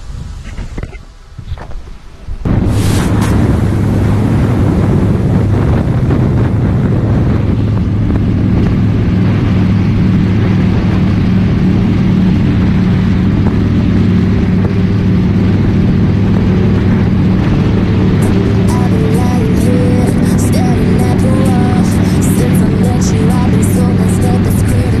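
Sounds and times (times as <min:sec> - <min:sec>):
motorcycle engine cruising: 0:00.0 - 0:25.0
wind and road noise: 0:00.0 - 0:25.0.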